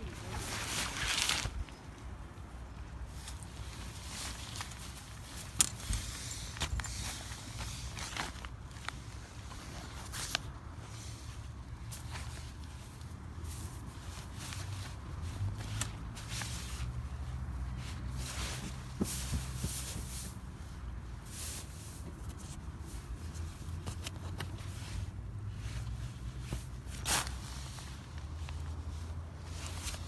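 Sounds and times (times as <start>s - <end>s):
rustling and scuffing: 0.0s - 30.0s.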